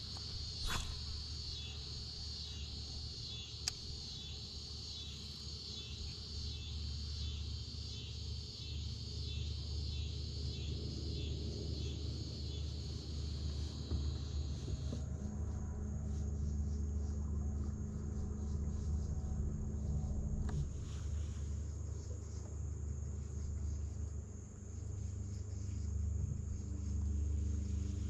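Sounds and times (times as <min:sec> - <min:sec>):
insects trilling: 0:00.0 - 0:28.0
low steady hum: 0:00.0 - 0:28.0.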